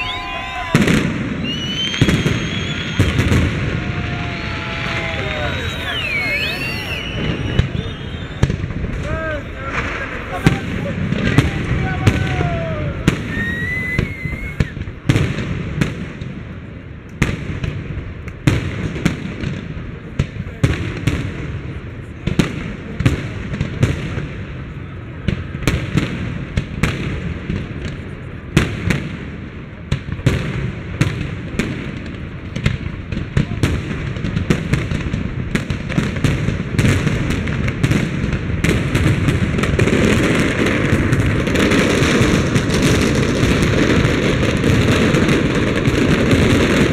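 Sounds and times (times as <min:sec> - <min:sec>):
fireworks bursts and bangs: 0:00.0 - 0:46.9
fireworks crackle: 0:00.0 - 0:46.9.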